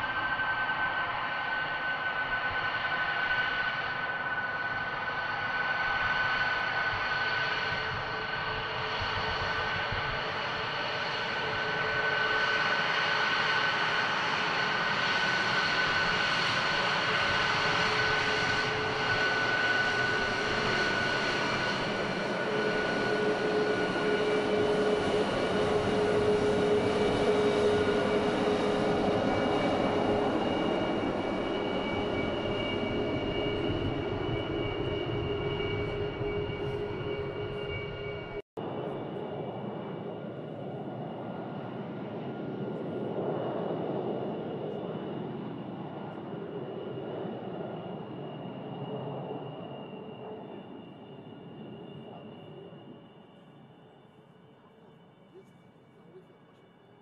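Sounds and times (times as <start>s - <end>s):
jet engine high whine: 0.0s - 57.0s.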